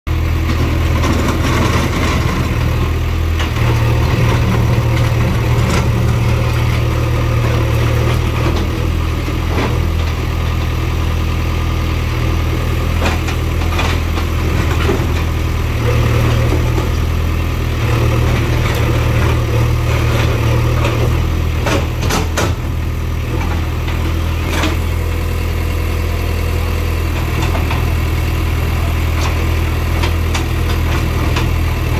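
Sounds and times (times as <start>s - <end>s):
diesel engine running: 0.1s - 31.9s.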